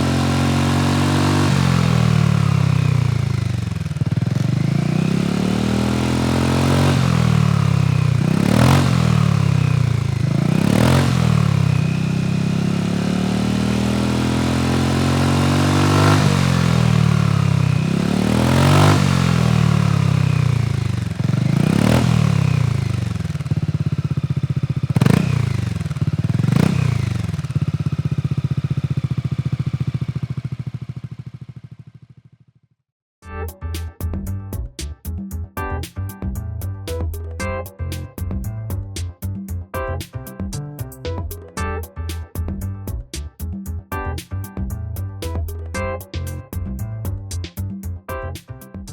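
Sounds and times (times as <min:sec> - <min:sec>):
scooter engine idling and revving: 0:00.0 - 0:32.6, 0:35.2 - 0:48.9.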